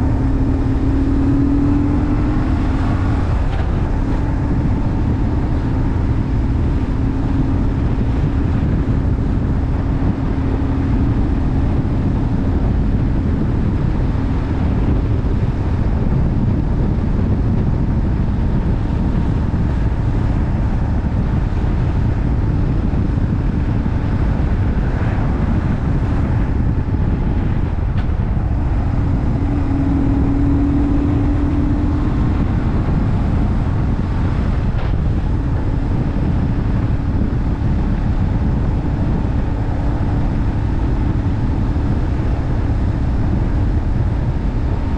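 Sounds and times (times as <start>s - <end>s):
motorcycle engine cruising: 0.0s - 44.9s
wind rush on microphone: 0.0s - 44.9s.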